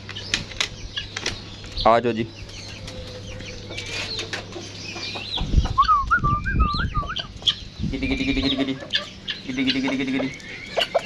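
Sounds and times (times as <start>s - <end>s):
chickens clucking: 0.0s - 11.0s
small birds chirping: 0.0s - 11.0s.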